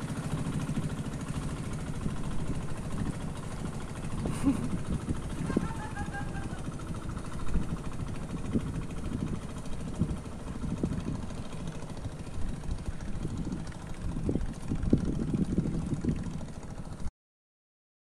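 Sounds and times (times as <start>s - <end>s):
small motorboat engine running: 0.0s - 17.1s.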